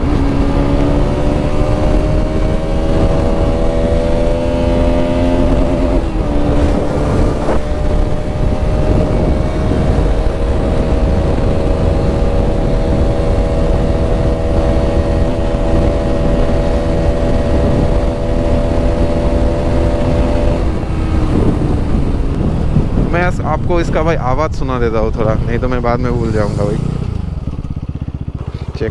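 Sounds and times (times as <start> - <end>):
motorcycle engine droning: 0.0 - 28.9.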